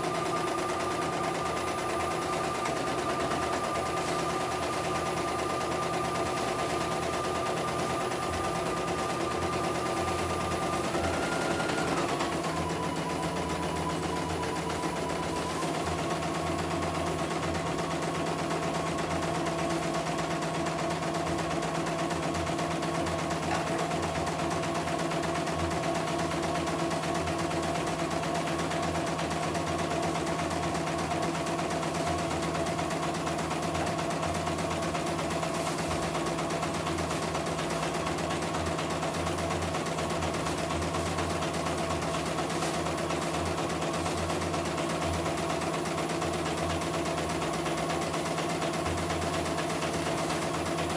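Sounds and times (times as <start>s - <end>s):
embroidery machine stitching: 0.0s - 50.9s.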